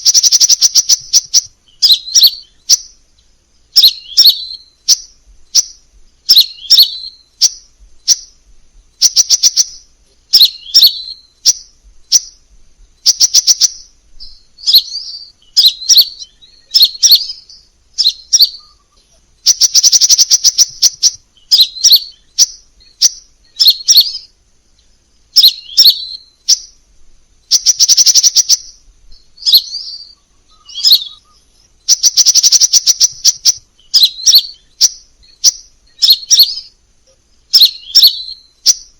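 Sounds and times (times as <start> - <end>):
sunbird singing ticking trills: 0.0 - 38.9.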